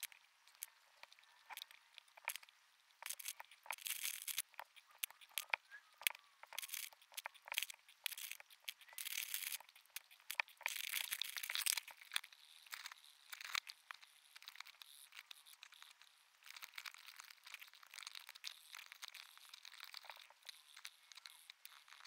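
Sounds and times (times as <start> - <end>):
crayon colouring scratch: 3.0 - 22.0.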